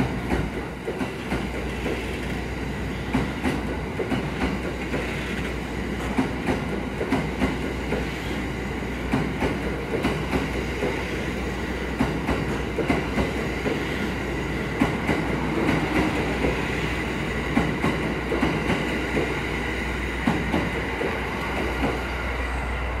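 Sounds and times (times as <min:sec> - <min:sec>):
train wheels clacking over rail joints: 0:00.0 - 0:22.2
train rumble: 0:00.0 - 0:23.0.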